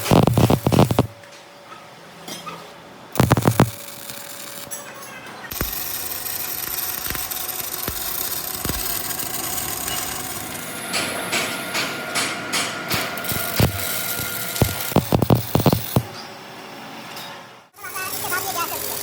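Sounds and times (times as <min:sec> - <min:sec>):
workshop machine running: 0:00.0 - 0:01.2, 0:03.2 - 0:19.0.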